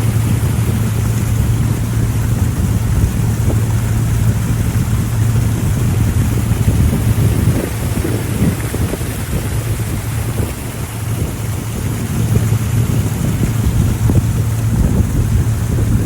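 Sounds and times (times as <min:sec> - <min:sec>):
boat motor humming: 0:00.0 - 0:16.0
wind buffeting microphone: 0:00.0 - 0:16.0.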